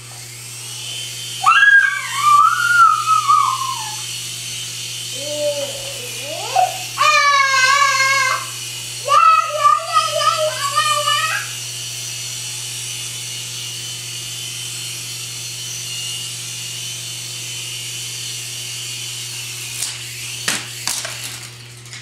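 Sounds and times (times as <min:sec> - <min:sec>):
toy helicopter motor whining: 0:00.0 - 0:22.0.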